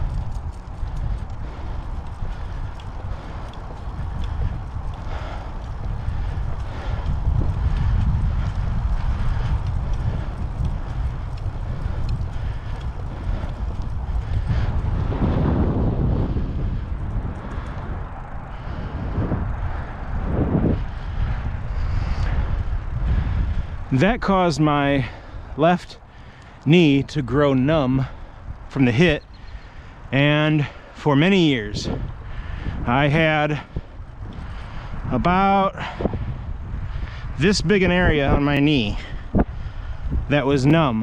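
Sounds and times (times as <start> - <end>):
wind rushing over microphone: 0.0 - 41.0.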